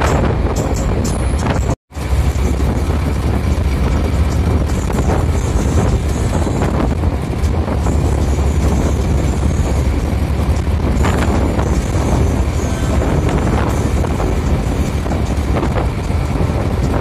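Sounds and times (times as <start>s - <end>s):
bus engine and tyres rumbling: 0.0s - 17.0s
wind noise: 0.0s - 17.0s.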